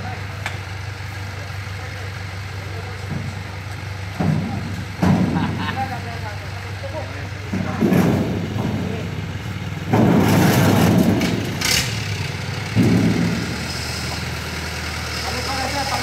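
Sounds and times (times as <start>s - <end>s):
truck engine idling and revving: 0.0s - 16.0s.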